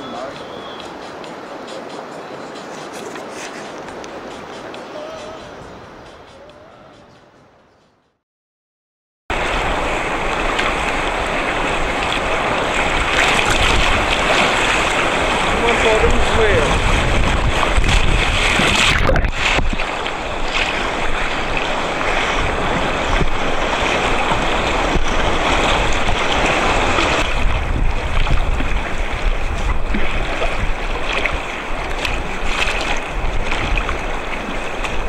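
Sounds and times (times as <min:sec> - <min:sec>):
whitewater rapids rushing: 0:00.0 - 0:07.0, 0:09.3 - 0:35.0.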